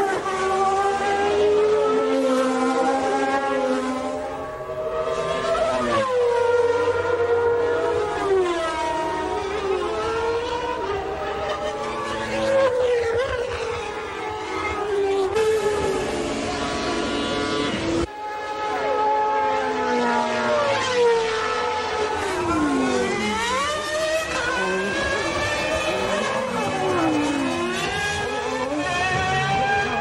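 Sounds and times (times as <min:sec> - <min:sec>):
racing car engines at high revs: 0:00.0 - 0:30.0.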